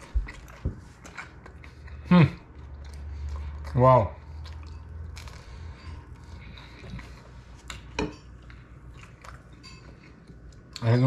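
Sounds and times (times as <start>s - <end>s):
person chewing toast: 0.0s - 10.8s.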